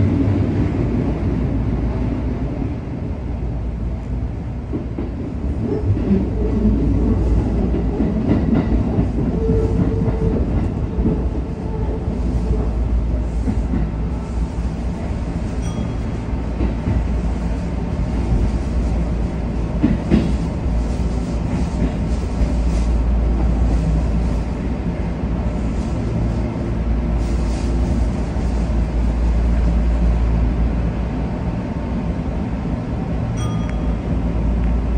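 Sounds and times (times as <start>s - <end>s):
electric train rumbling: 0.0s - 34.9s.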